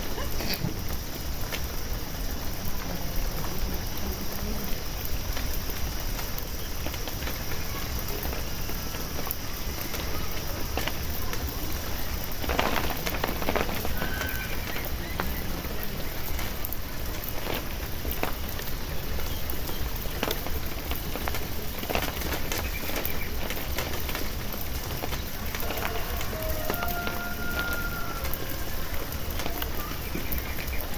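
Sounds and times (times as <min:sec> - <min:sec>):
water spraying on plants: 0:00.0 - 0:30.9.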